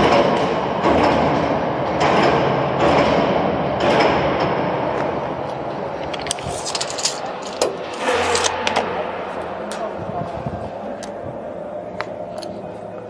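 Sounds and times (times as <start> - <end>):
overhead crane running: 0.0 - 13.0.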